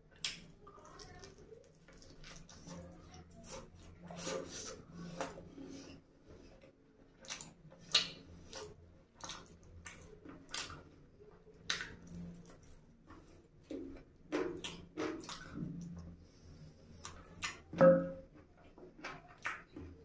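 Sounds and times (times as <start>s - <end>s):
wet chewing: 0.0s - 6.0s, 7.1s - 20.0s.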